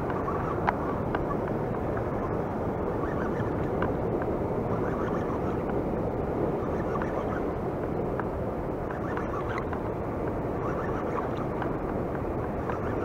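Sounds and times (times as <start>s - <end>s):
wind and water rushing: 0.0s - 13.0s.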